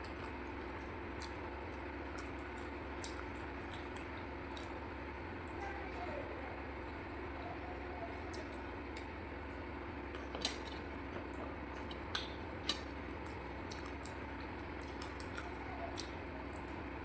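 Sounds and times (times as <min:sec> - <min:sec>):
mouth clicks and smacks eating: 0:00.0 - 0:05.6, 0:07.6 - 0:09.2, 0:10.0 - 0:16.8
steady low hum: 0:00.0 - 0:17.0.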